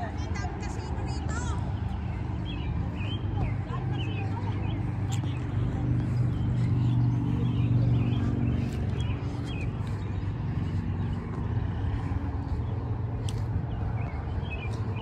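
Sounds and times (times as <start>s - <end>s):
vehicle engine hum: 0.0s - 15.0s
small birds chirping: 0.1s - 15.0s.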